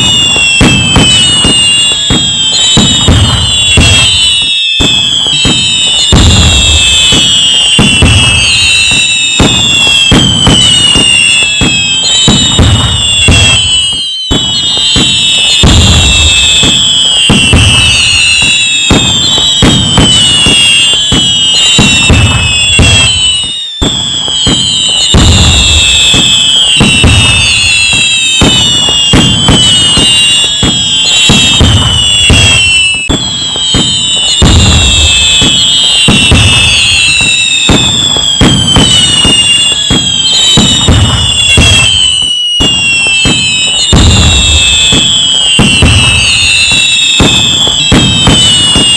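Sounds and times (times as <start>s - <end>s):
fireworks bangs and crackles: 0.0s - 48.9s
fireworks whistles falling in pitch: 0.0s - 48.9s.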